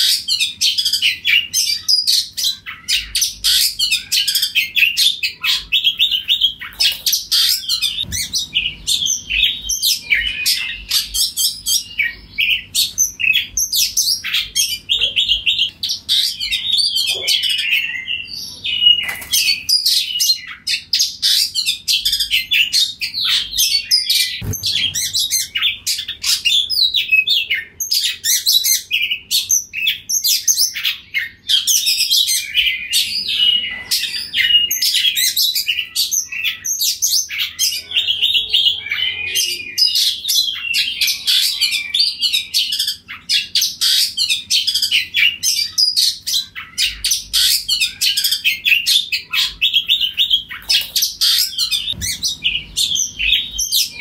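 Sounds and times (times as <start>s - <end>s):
magpie-robin singing: 0.0s - 54.0s.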